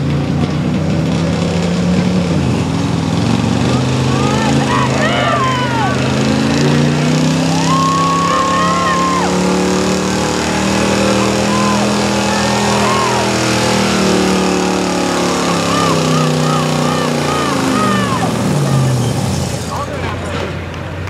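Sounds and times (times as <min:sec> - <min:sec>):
truck engine running: 0:00.0 - 0:21.0
voices: 0:03.5 - 0:21.0.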